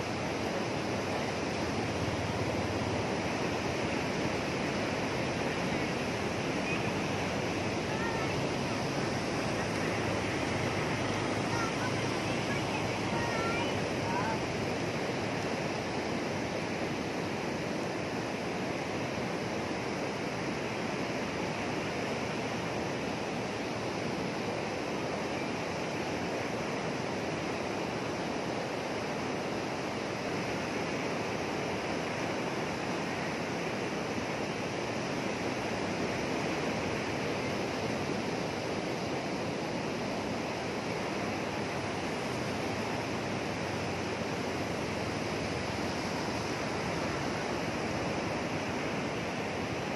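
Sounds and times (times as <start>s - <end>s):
sea surf washing onto beach: 0.0s - 49.9s
strong wind: 0.0s - 49.9s.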